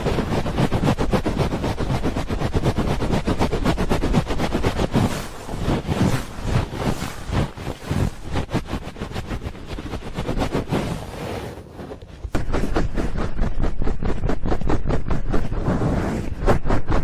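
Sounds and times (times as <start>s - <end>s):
hands rubbing over microphone: 0.0s - 17.0s.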